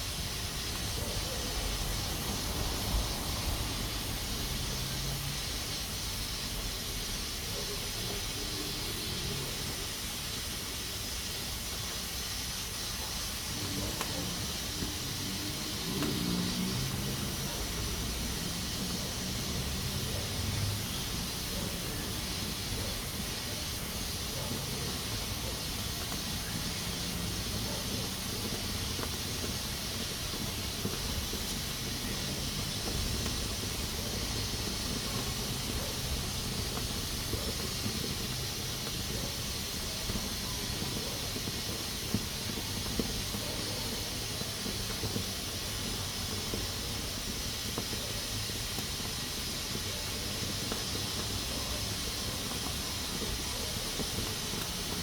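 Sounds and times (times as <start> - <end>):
pressure cooker steam hissing: 0.0 - 55.0.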